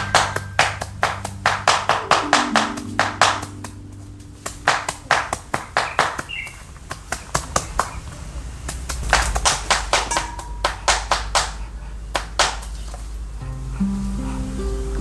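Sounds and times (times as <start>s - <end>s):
sharp knocks: 0.0s - 8.0s, 8.7s - 13.0s.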